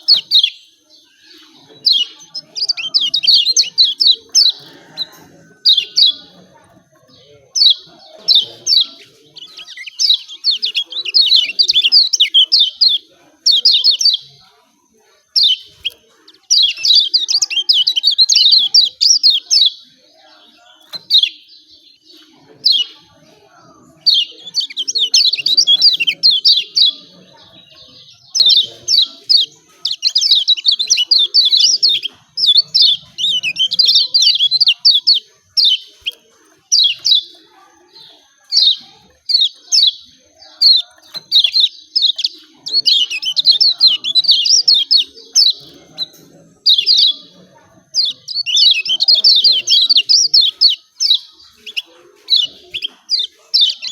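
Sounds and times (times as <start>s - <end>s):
bird rapid high chirping: 0.0s - 14.5s, 15.2s - 53.9s.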